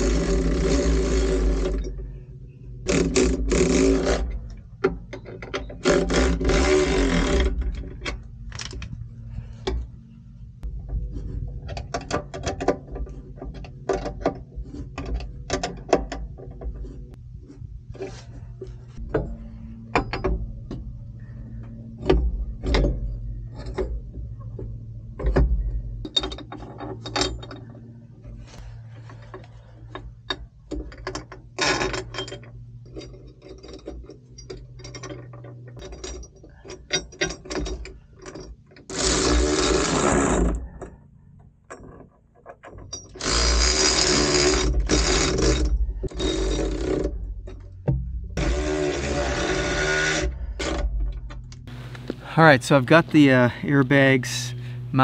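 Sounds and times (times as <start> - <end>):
steady low hum: 0.0 - 36.2, 43.2 - 55.0.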